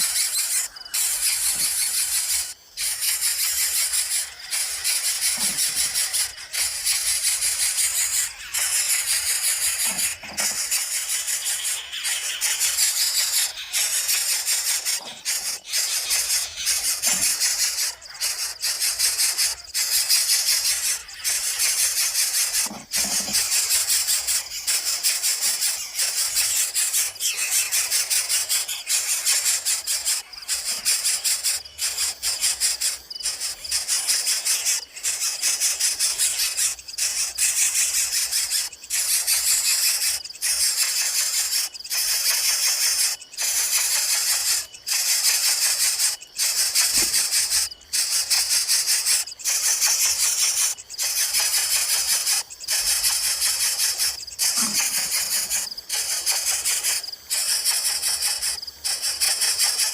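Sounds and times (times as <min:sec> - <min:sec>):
nestlings hissing squeal: 0:00.0 - 0:59.9.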